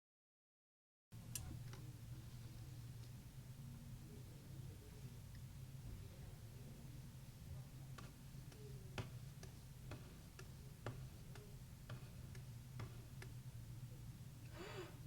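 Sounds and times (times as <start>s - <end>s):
steady low hum: 1.2s - 15.0s.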